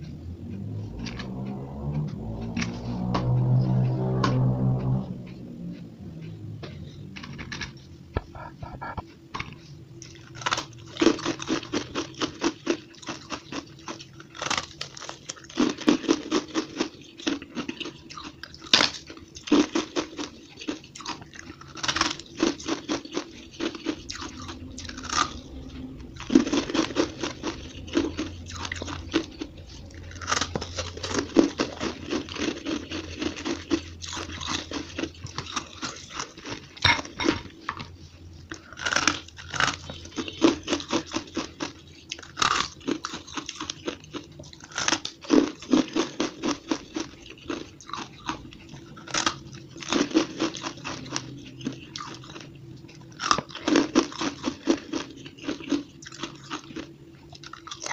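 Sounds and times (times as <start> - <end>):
ice being crunched and chewed: 10.0 - 37.8, 38.5 - 57.9.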